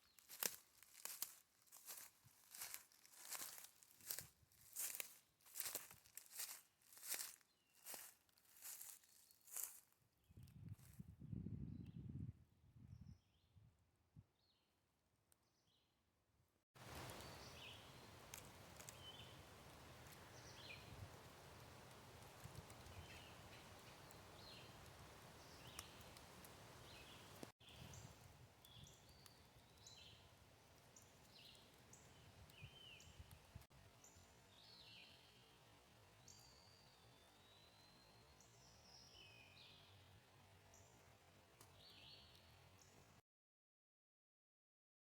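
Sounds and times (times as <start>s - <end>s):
small birds chirping: 0.0s - 10.9s, 16.9s - 43.1s.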